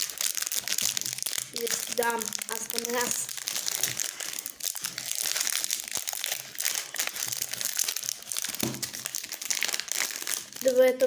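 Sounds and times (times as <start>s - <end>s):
wrapper crinkling: 0.0s - 11.0s.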